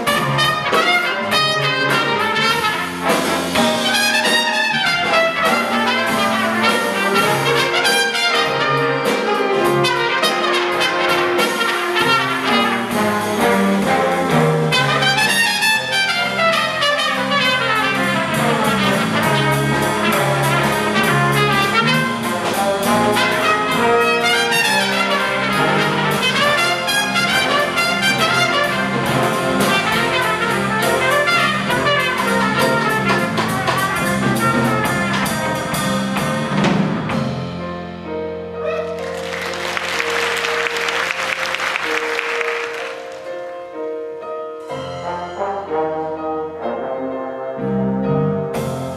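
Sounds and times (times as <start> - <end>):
trumpet solo runs: 0.0 - 36.2, 38.6 - 43.4
big band jazz: 0.0 - 48.9.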